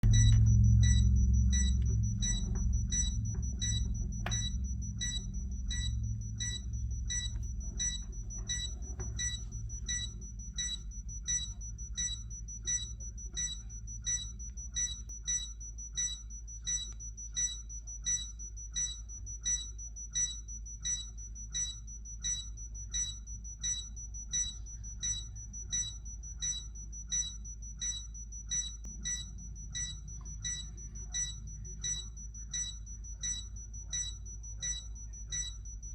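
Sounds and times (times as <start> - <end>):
short high-pitched beeps: 0.0 - 35.9
steady low hum: 0.0 - 35.9.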